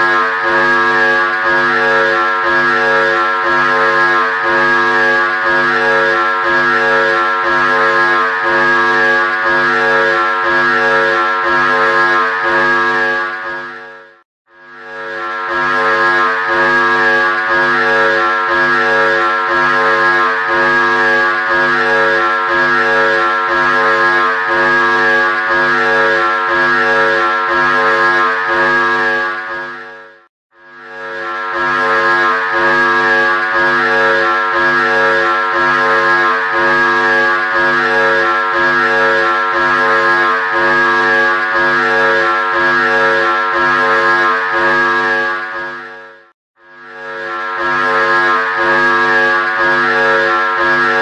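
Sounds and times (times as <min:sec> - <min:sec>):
pulsing electronic alarm buzz: 0:00.0 - 0:51.0.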